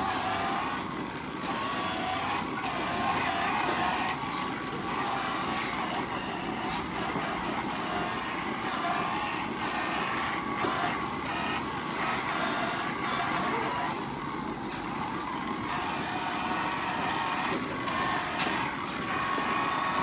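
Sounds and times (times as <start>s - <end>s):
rotary brush whirring: 0.0s - 20.0s
water spraying: 0.0s - 20.0s.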